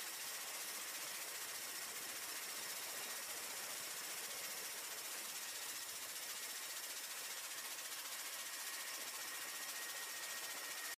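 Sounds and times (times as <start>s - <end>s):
faint high hiss: 0.0s - 10.9s
thin steady tone: 0.0s - 10.9s.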